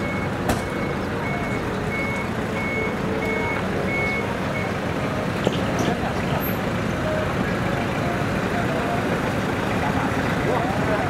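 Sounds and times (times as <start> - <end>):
truck engine running: 0.0 - 11.0
truck reversing alarm beeping: 0.0 - 11.0.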